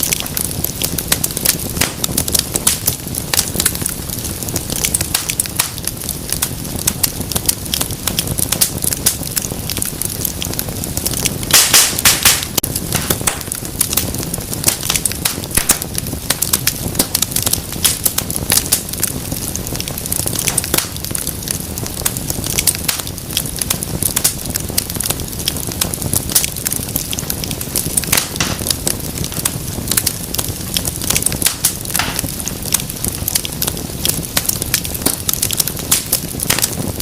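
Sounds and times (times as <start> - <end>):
low rumble of burning: 0.0 - 37.0
wood fire crackling and popping: 0.0 - 37.0.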